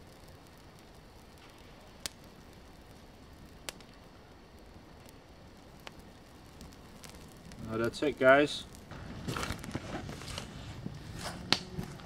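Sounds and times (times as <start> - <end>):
sharp fire pops: 0.0 - 12.0
torch burning with crackle: 0.0 - 12.0.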